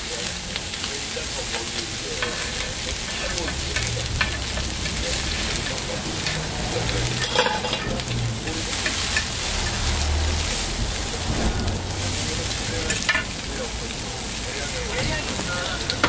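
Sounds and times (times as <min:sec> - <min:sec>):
food sizzling on a griddle: 0:00.0 - 0:16.0
tongs and spatula scraping steel: 0:00.6 - 0:16.0.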